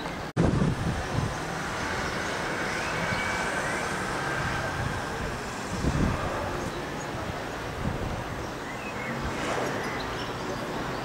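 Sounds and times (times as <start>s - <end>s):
distant city traffic hum: 0.0s - 11.0s.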